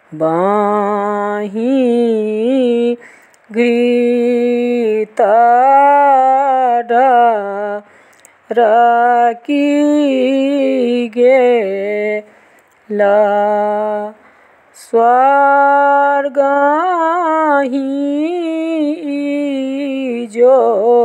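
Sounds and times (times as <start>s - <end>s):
woman singing unaccompanied: 0.0s - 21.0s.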